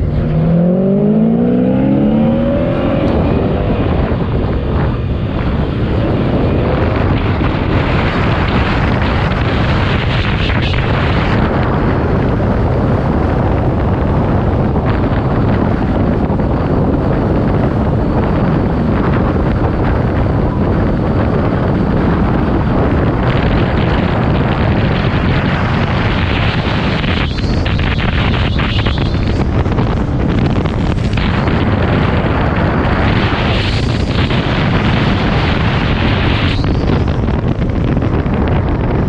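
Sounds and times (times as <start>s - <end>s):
car engine roaring: 0.0s - 39.0s
wind buffeting microphone: 0.0s - 39.0s.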